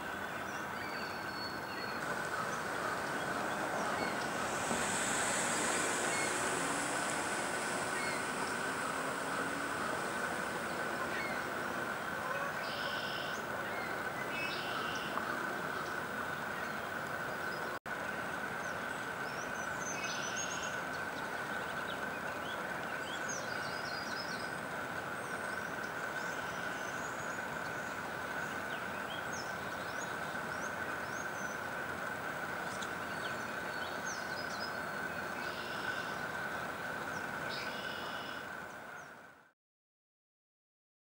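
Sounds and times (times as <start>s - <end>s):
outdoor background noise: 0.0s - 39.5s.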